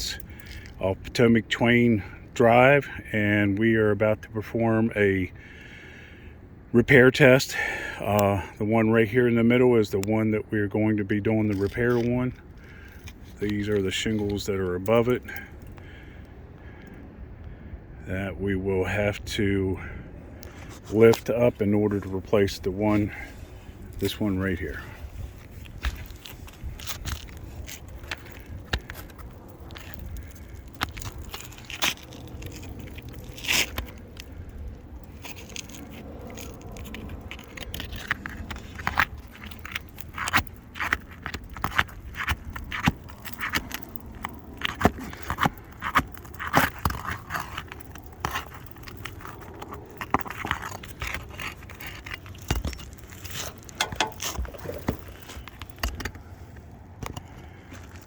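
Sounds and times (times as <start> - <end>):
roof shingles scraping and crackling: 0.0 - 3.3, 7.1 - 16.8, 20.4 - 58.0.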